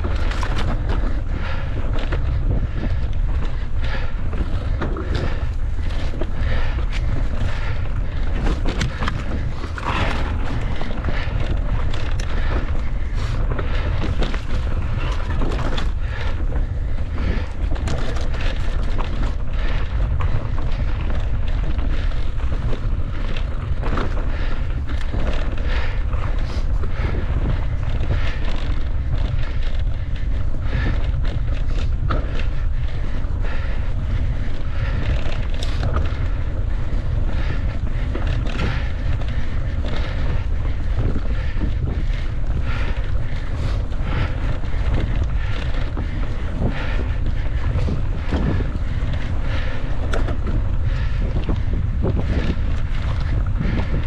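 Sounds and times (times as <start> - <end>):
bike knocks and rattles: 0.0 - 54.0
wind buffeting microphone: 0.0 - 54.0.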